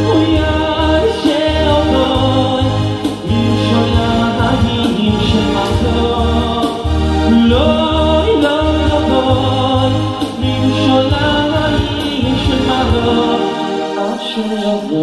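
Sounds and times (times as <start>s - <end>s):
keyboard with heavy bass line: 0.0s - 15.0s
man singing through a pa: 0.0s - 15.0s.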